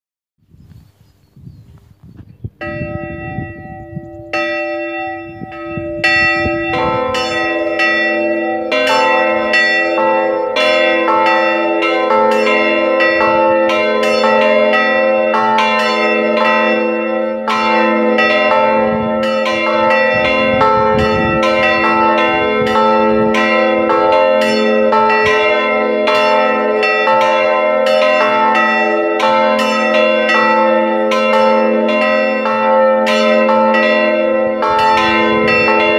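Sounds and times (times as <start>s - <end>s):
church bells pealing: 2.5s - 35.9s.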